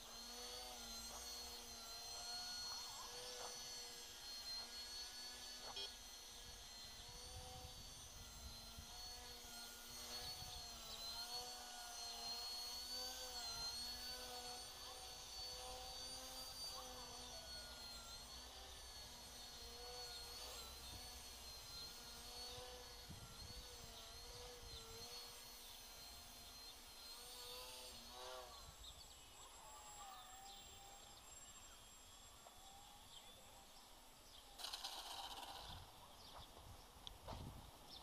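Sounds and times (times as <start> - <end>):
quadcopter motors whining: 0.0 - 38.0.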